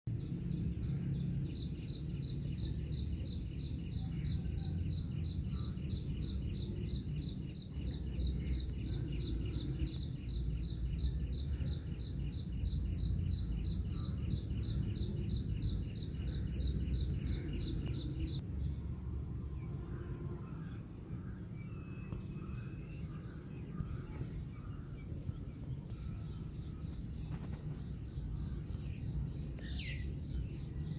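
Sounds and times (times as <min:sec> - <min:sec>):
steady low rumble: 0:00.1 - 0:30.9.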